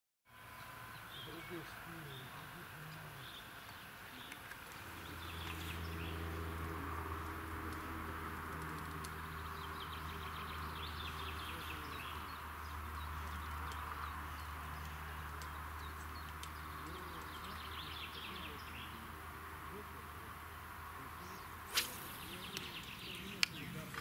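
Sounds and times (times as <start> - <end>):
small birds chirping: 0.4 - 24.0.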